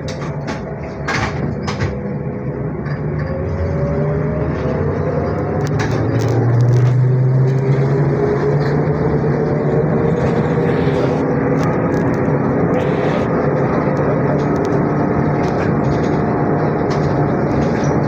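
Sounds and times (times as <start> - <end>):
road and body rumble: 0.0 - 18.0.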